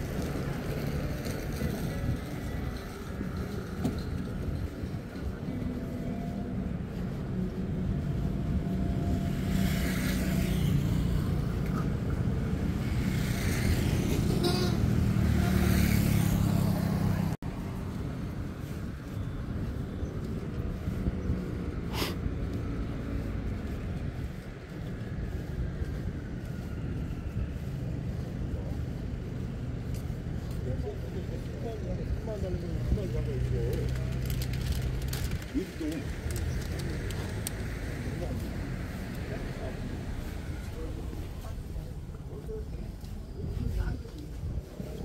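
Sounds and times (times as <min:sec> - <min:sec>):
car engines on road: 0:00.0 - 0:45.0
street hum: 0:00.0 - 0:45.0.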